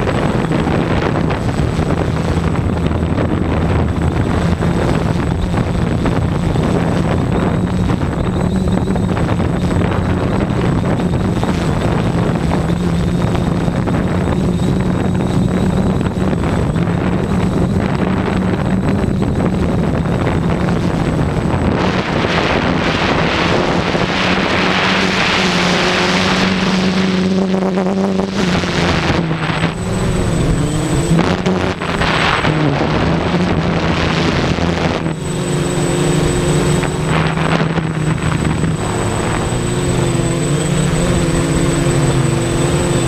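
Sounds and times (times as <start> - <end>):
drone propellers humming: 0.0 - 43.0
wind rushing over microphone: 0.0 - 43.0.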